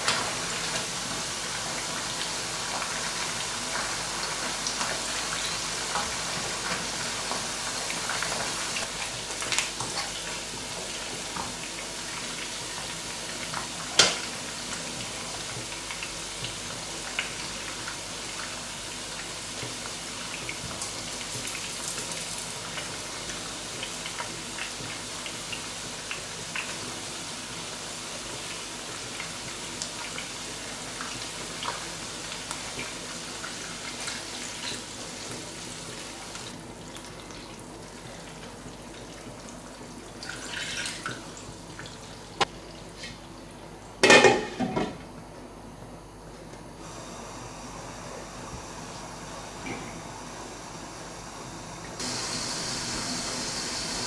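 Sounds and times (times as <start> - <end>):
chicken sizzling in hot oil: 0.0 - 42.4, 50.2 - 54.0.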